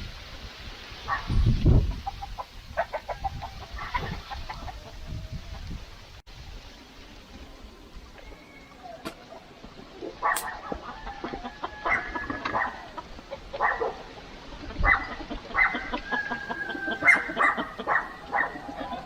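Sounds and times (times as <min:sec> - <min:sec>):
chickens clucking and calling: 0:01.0 - 0:06.1, 0:07.6 - 0:19.0.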